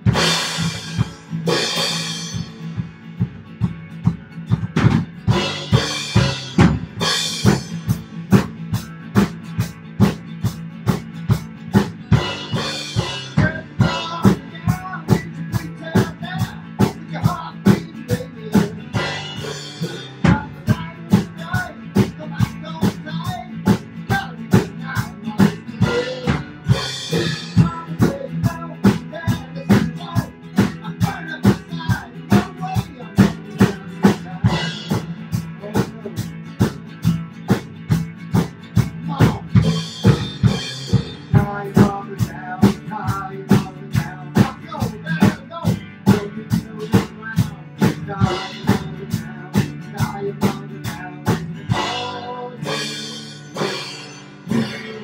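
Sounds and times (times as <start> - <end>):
drum kit beat: 0.0 - 55.0
rock band playing: 0.0 - 55.0.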